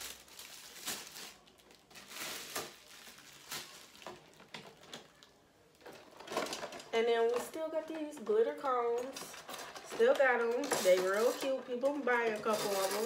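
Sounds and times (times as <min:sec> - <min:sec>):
plastic packaging crinkling: 0:00.0 - 0:07.6, 0:08.7 - 0:13.0.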